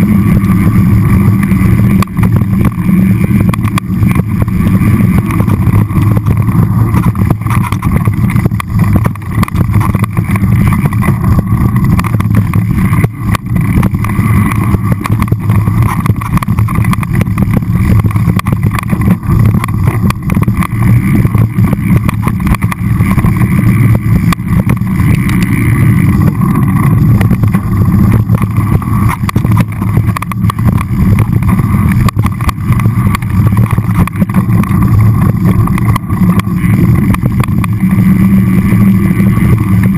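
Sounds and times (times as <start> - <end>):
mountain bike rattling over rocks: 0.0 - 39.9.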